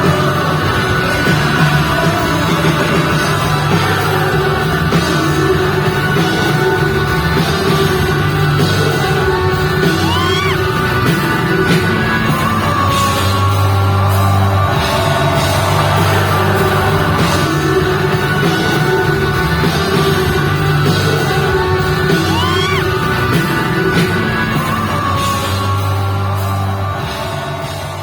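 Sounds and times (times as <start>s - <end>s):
heavy bass: 0.0s - 28.0s
live pop-rock band playing: 0.0s - 28.0s
voices yelling and singing: 0.0s - 28.0s.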